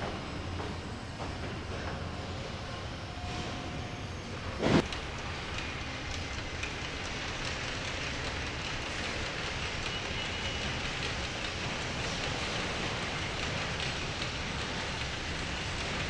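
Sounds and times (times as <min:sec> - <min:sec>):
assembly line machinery hum: 0:00.0 - 0:16.0.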